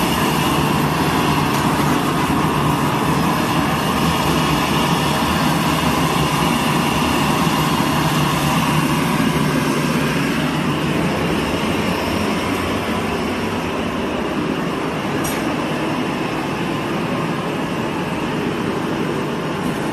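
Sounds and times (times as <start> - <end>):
restaurant kitchen noise: 0.0 - 19.9.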